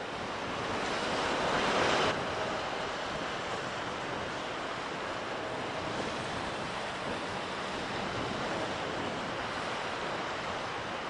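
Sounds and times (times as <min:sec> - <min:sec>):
choppy sea and waves: 0:00.0 - 0:11.0
wind buffeting microphone: 0:00.0 - 0:11.0.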